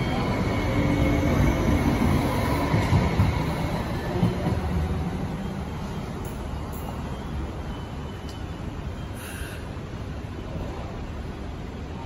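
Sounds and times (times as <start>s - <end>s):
light rail wheels rumbling: 0.0s - 12.0s.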